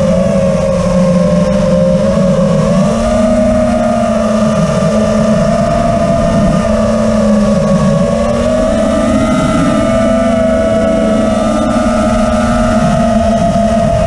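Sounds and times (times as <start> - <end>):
drone motors and propellers: 0.0 - 14.0.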